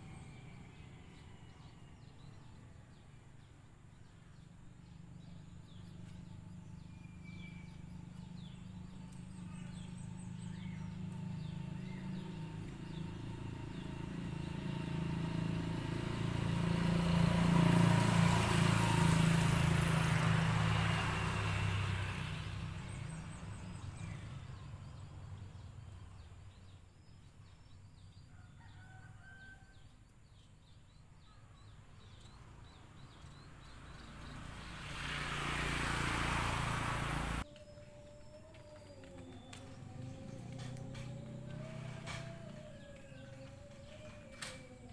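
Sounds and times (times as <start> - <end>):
small birds chirping: 0.0 - 19.9, 20.7 - 44.9.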